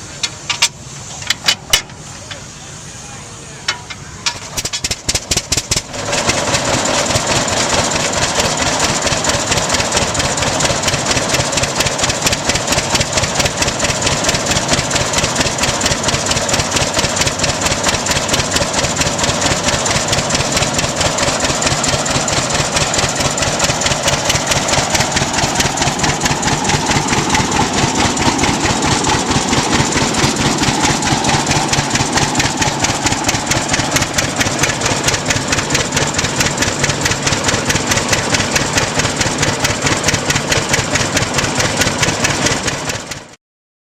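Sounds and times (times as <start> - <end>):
tractor engine idling: 0.0 - 43.4.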